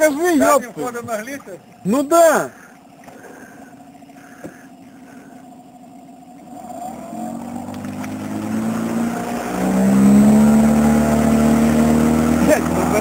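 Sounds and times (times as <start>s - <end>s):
outboard motor revving up: 0.0s - 13.0s.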